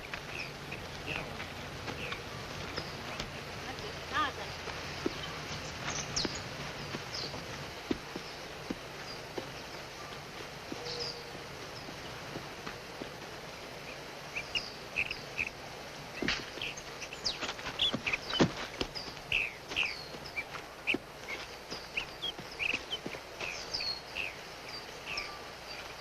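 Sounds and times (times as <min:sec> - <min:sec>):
background hiss: 0:00.0 - 0:26.0
birds chirping: 0:00.0 - 0:26.0.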